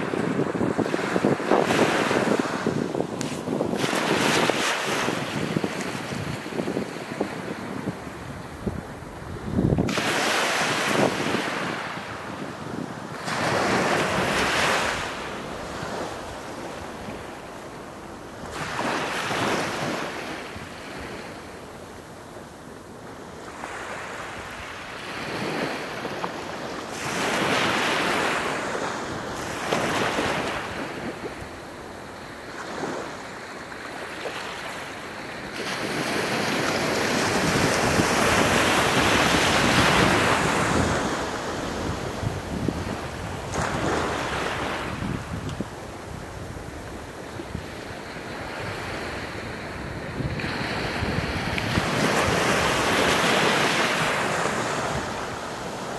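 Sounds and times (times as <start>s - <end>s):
small waves breaking on a beach: 0.0s - 55.9s.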